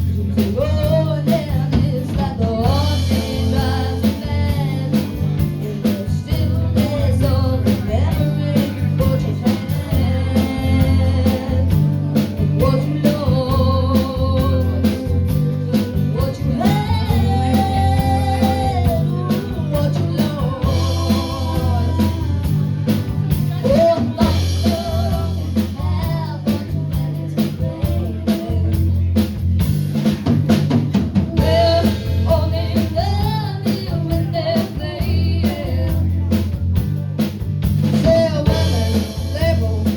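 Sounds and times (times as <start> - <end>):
person singing: 0.0 - 29.4, 31.2 - 37.2, 37.8 - 39.9
bass line: 0.0 - 39.9
drum kit beat: 0.0 - 39.9
guitar: 0.0 - 39.9.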